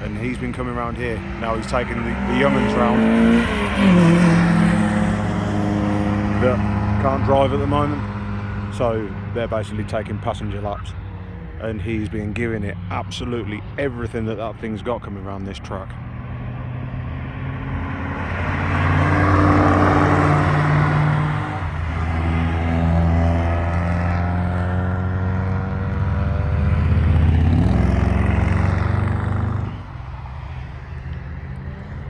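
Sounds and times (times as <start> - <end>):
race cars passing: 0.0 - 32.0.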